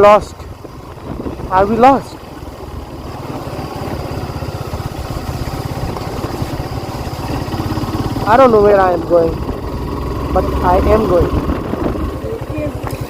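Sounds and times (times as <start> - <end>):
motorcycle engine running at low speed: 0.0 - 13.0.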